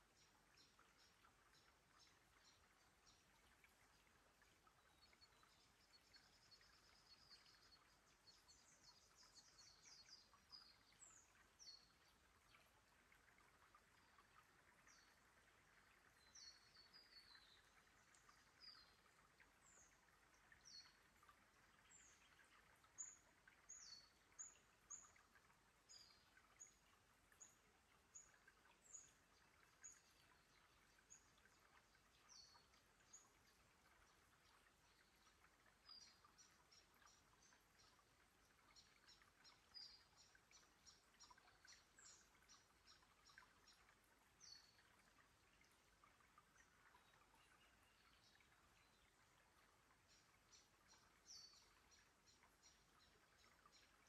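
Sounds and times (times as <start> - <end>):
low background hiss: 0.0 - 54.0.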